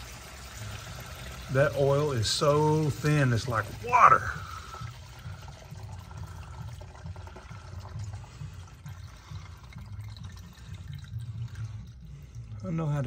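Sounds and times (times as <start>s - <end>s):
oil pouring into a pan: 0.0s - 13.0s.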